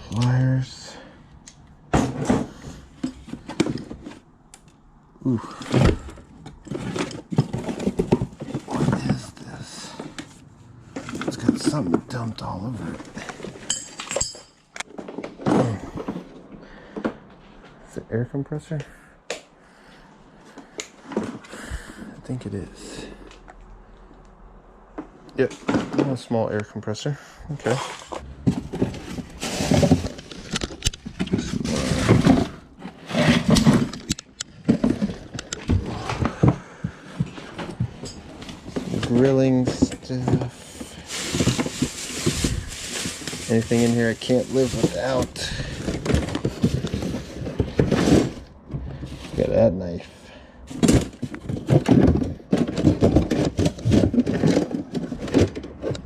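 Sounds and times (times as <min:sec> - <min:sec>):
items scraping and clattering: 0:00.0 - 0:56.0.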